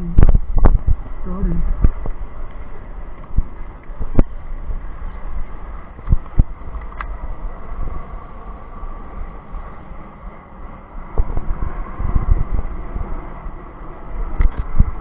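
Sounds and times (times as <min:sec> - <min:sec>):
low rumble: 0:00.0 - 0:15.0
wind buffeting microphone: 0:00.0 - 0:15.0.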